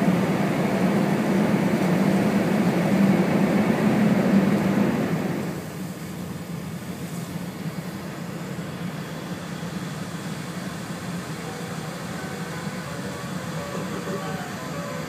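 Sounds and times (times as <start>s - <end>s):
train running rumble and hiss: 0.0s - 15.0s.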